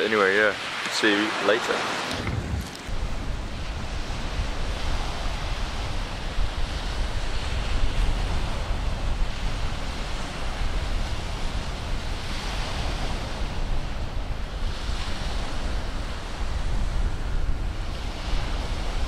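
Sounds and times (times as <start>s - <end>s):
wind rumble on microphone: 2.1s - 19.0s.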